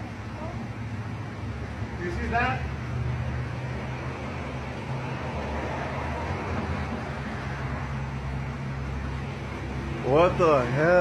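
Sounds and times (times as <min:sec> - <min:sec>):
constant background noise: 0:00.0 - 0:11.0.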